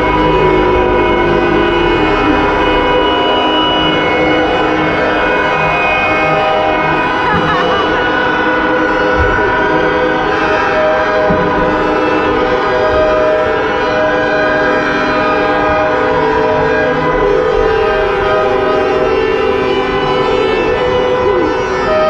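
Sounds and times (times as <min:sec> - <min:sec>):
car horns blaring: 0:00.0 - 0:22.0.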